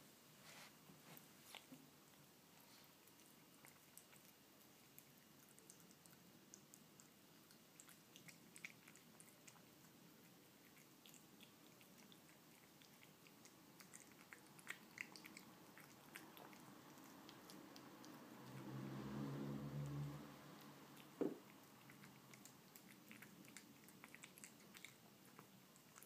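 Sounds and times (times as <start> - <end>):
kitten chewing and licking food: 0.4 - 26.0.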